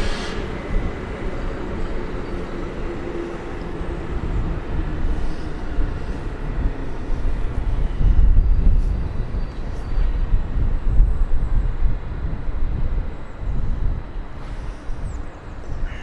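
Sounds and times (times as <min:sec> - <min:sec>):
train rumbling through station: 0:00.0 - 0:16.0.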